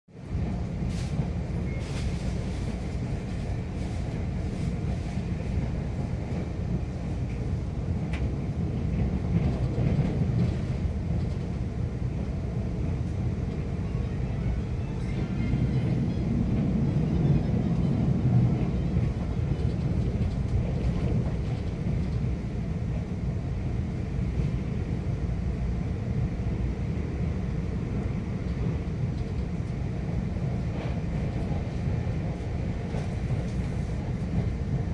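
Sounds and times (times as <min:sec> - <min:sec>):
train wheels rumbling on track: 0:00.1 - 0:34.9.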